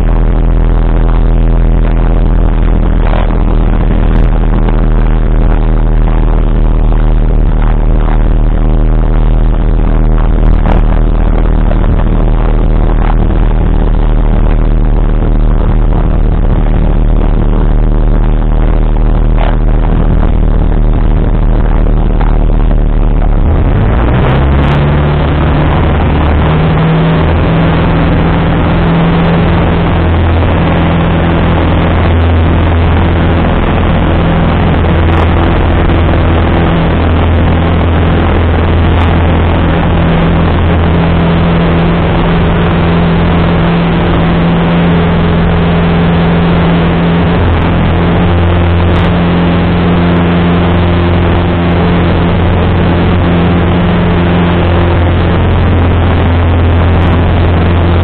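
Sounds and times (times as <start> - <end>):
airplane engine and propeller: 0.0 - 58.0.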